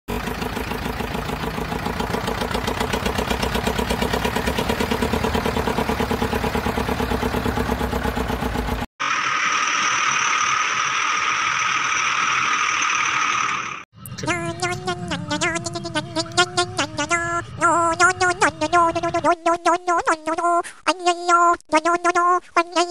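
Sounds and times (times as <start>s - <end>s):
tractor engine idling: 0.1s - 19.1s
hissing engine with high whine: 0.2s - 19.1s.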